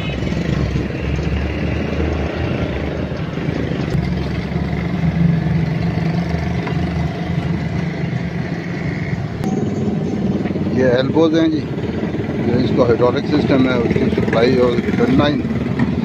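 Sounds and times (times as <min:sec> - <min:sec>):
engine idling: 0:03.0 - 0:16.0.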